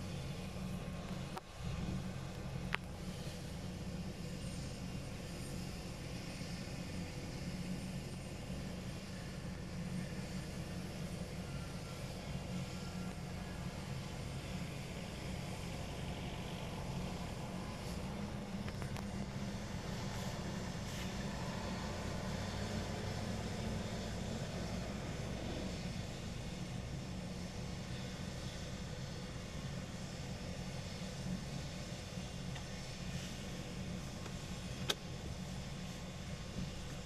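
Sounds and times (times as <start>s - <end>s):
helicopter idling: 0.0s - 37.0s.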